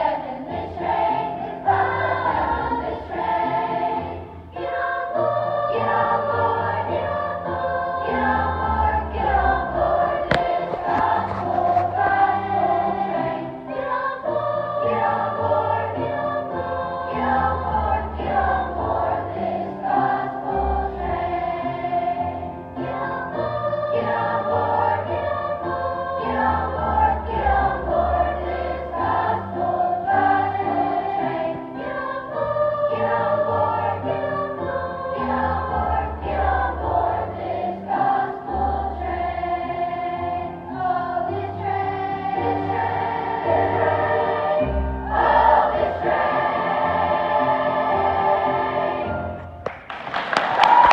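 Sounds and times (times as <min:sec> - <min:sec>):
children's choir singing: 0:00.0 - 0:49.5.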